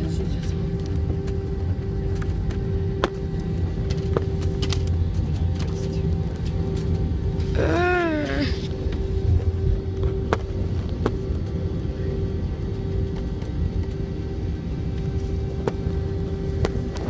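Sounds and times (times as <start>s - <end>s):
engine hum: 0.0s - 17.0s
low cabin rumble: 0.0s - 17.0s.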